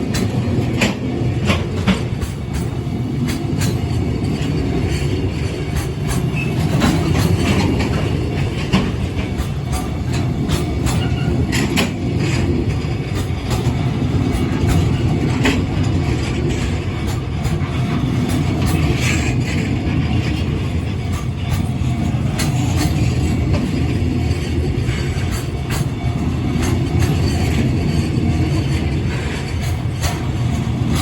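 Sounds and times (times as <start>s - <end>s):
freight train low rumble: 0.0s - 31.0s
wheels clacking over rail joints: 0.0s - 31.0s.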